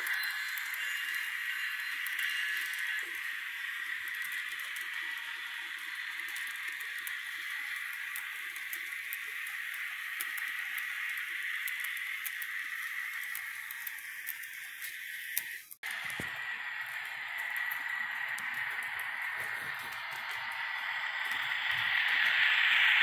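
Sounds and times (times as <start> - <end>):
model train cars rolling on track: 0.0 - 23.0.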